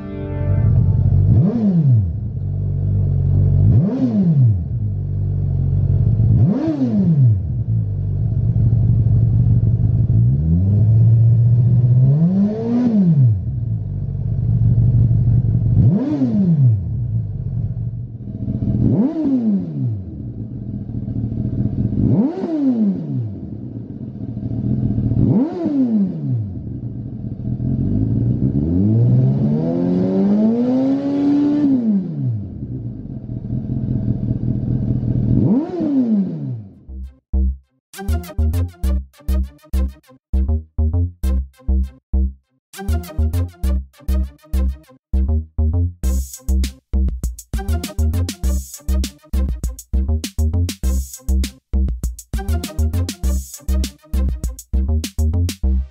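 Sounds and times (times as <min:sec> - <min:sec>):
motorcycle engine idling and revving: 0:00.7 - 0:37.7, 0:45.2 - 0:55.9.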